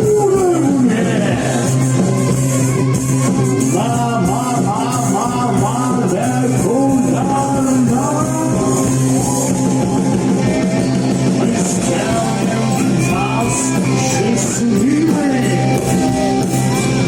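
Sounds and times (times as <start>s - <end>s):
person singing: 0.0s - 17.0s
rock band playing: 0.0s - 17.0s.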